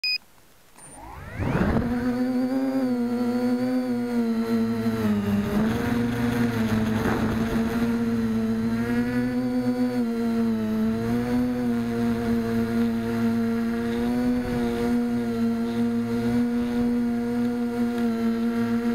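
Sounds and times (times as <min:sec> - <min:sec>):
drone motors whining: 0:00.8 - 0:18.9.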